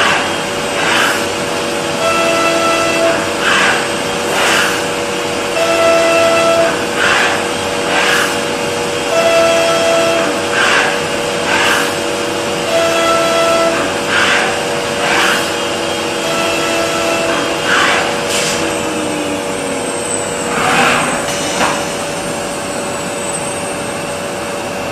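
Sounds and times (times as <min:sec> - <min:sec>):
boring machine whine: 0:00.0 - 0:24.9.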